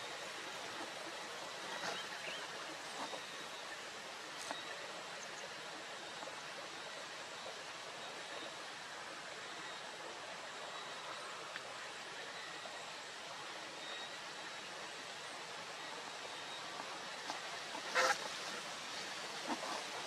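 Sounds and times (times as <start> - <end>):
outdoor noise hiss: 0.0 - 20.0.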